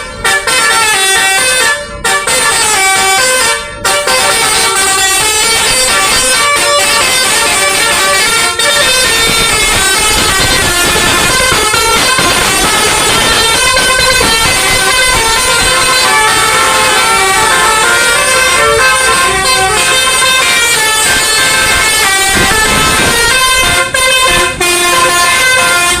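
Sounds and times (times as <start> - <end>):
bus horns playing melodies: 0.0 - 26.0.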